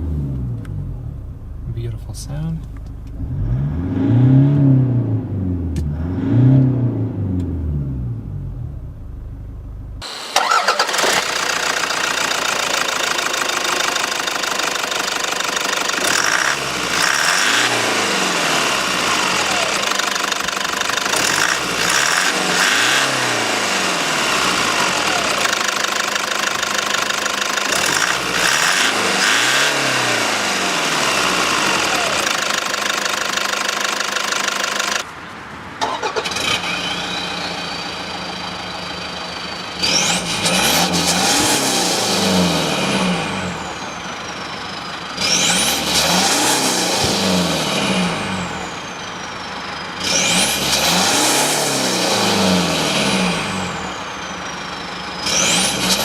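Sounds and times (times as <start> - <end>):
diesel engine revving: 0.0 - 35.0, 35.8 - 56.0.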